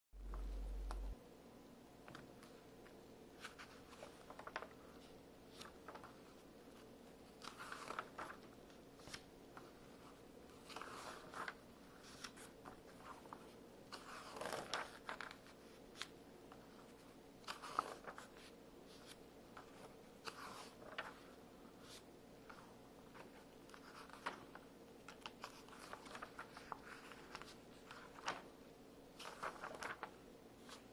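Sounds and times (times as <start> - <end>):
magazine pages turning: 3.4 - 6.4, 7.2 - 28.5, 29.2 - 30.9.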